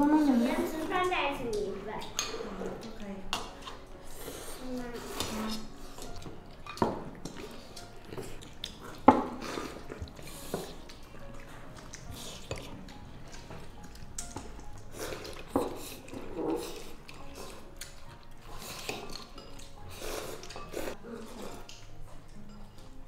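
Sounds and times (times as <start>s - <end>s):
cutlery clinking against bowls: 2.0s - 23.0s.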